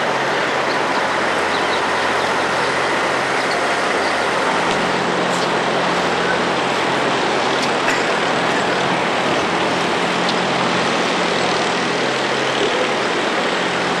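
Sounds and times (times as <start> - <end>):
traffic with idling engines: 0.0 - 14.0.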